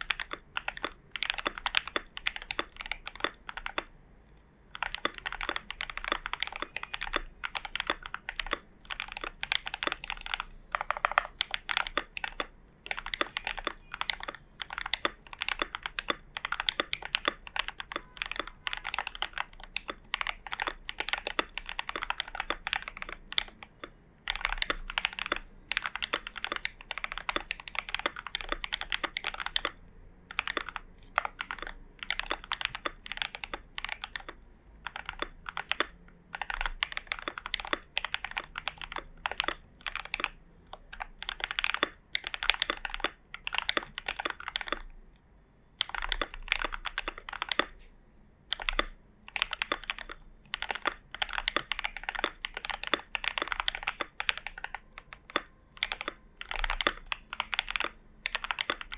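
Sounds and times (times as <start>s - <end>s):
mechanical keyboard typing: 0.0s - 44.9s, 45.8s - 58.9s.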